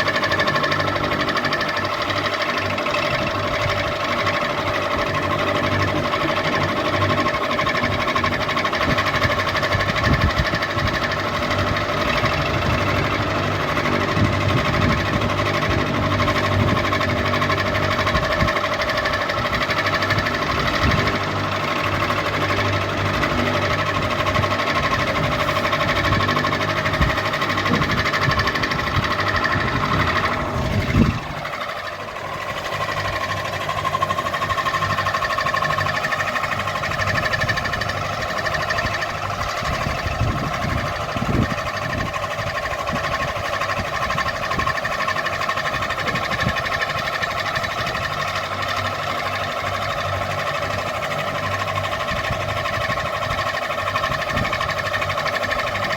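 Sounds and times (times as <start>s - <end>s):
ceiling fan motor hum: 0.0s - 55.9s.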